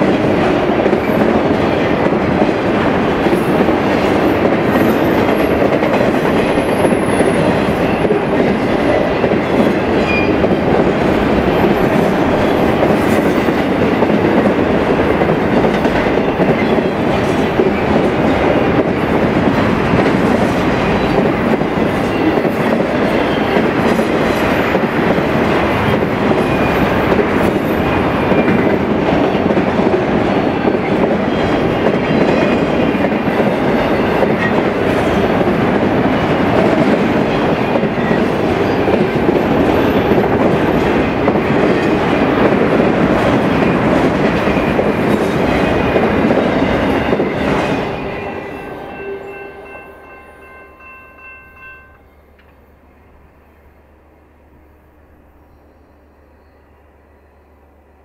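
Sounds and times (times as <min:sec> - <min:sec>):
train wheels rolling on rails: 0:00.0 - 0:53.4.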